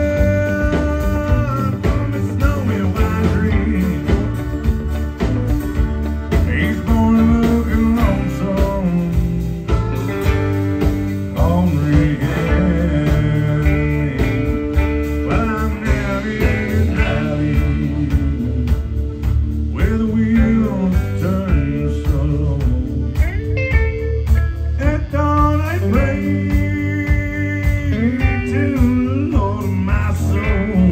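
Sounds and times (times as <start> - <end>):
man singing: 0.0 - 4.8, 6.3 - 9.8, 11.2 - 23.6, 24.7 - 30.9
bending guitar lead lines: 0.0 - 30.9
live country band playing: 0.0 - 30.9.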